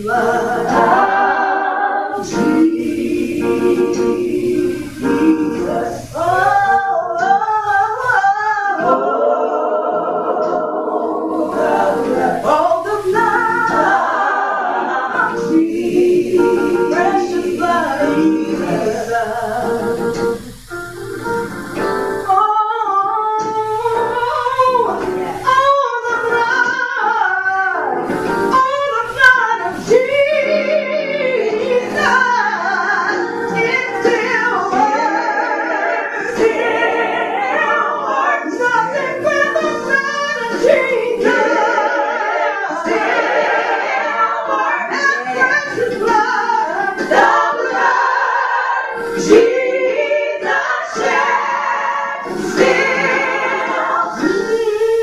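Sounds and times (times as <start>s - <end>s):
women singing gospel: 0.0s - 20.6s, 22.2s - 55.0s.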